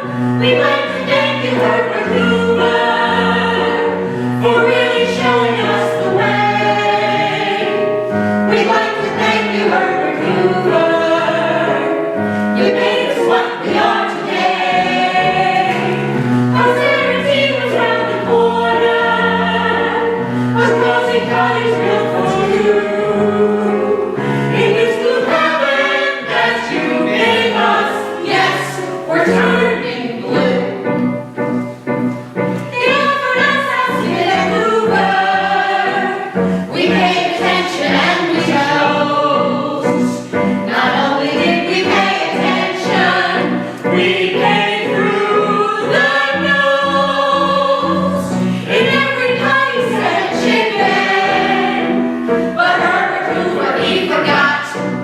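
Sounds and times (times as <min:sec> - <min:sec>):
chorus singing: 0:00.0 - 0:31.4, 0:32.5 - 0:55.0
instrumental accompaniment: 0:00.0 - 0:55.0.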